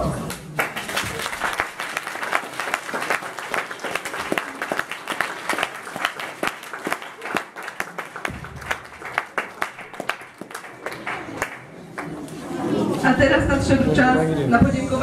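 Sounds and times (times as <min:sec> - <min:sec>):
loud close hand clapping: 0:00.3 - 0:12.4
audience applauding: 0:00.3 - 0:12.6.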